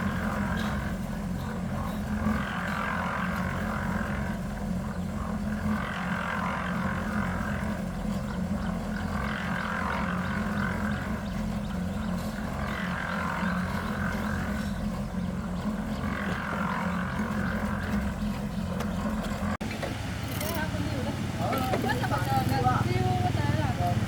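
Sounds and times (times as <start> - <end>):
machine engine humming: 0.0 - 24.0.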